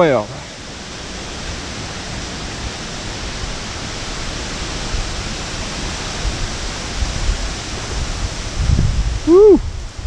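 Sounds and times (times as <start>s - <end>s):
strong wind rushing: 0.3s - 10.0s
wind buffeting microphone: 0.5s - 10.0s.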